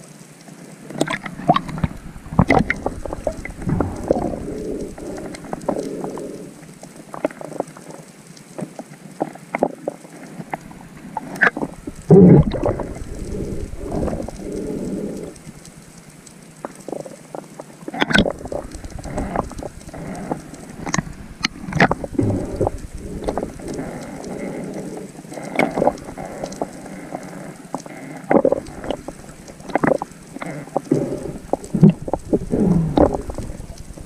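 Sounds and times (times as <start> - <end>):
rush of moving water: 0.0 - 34.0
underwater clicks and crackles: 0.0 - 34.0.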